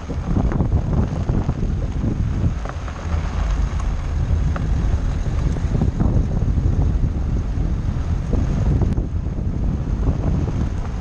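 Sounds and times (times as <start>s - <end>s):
car rolling over gravel: 0.0s - 11.0s
wind buffeting microphone: 0.0s - 11.0s.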